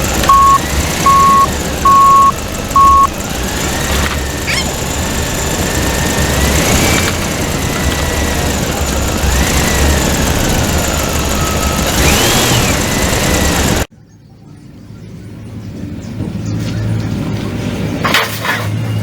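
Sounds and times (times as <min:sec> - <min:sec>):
loud engine rumble: 0:00.0 - 0:13.9, 0:14.6 - 0:19.0.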